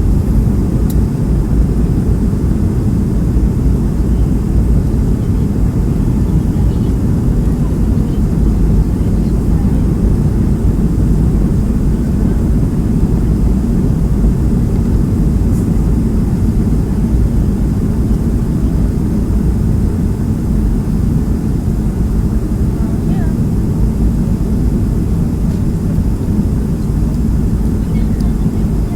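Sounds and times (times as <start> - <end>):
airplane engines rumbling in cabin: 0.0 - 28.9.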